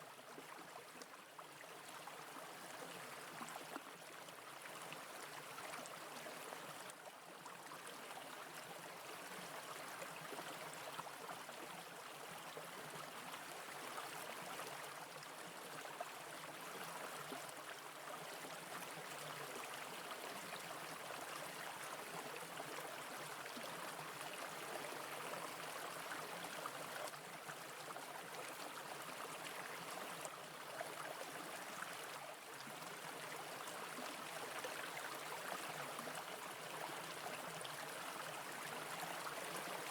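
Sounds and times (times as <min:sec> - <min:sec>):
brook flowing over rocks: 0:00.2 - 0:39.9.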